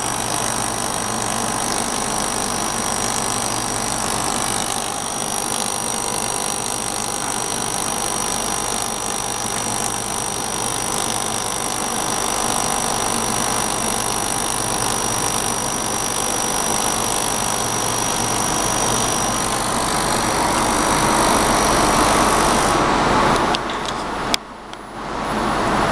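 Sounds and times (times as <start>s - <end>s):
machine clicks: 0.0s - 22.8s
welding machine humming: 0.0s - 23.6s.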